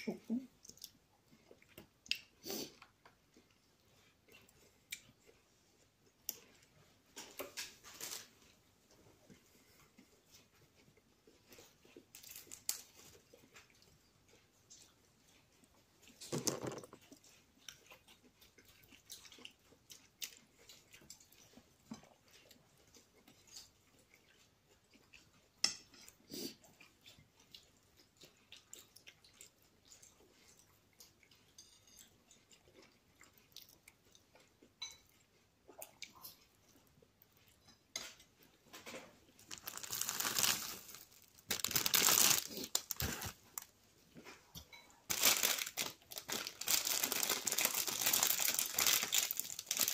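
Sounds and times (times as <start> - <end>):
soft chewing and mouth clicks: 0.0 - 49.9.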